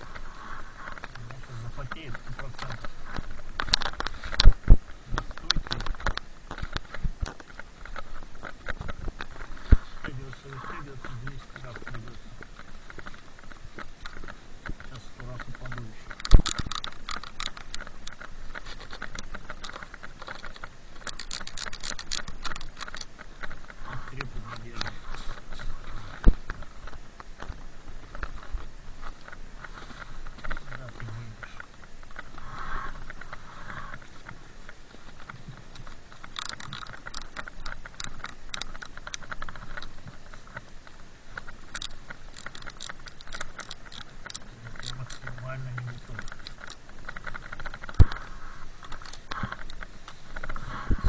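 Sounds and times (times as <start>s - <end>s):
snow crunching and crackling: 0.0s - 51.0s.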